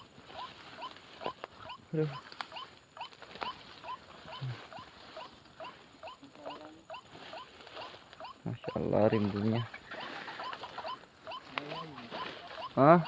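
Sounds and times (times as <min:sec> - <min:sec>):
faint clicks in undergrowth: 0:00.0 - 0:13.0
small animal squeaky chirps: 0:00.0 - 0:13.0.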